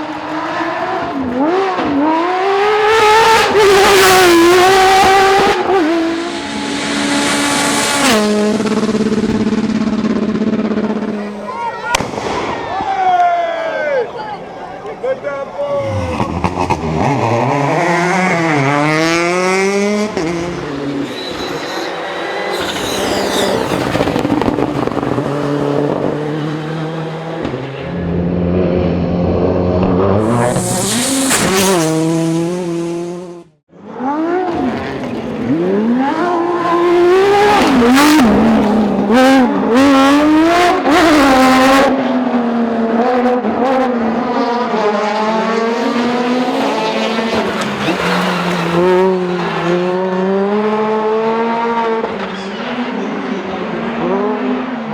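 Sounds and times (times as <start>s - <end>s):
rally car engines revving: 0.0s - 12.6s, 14.4s - 54.9s.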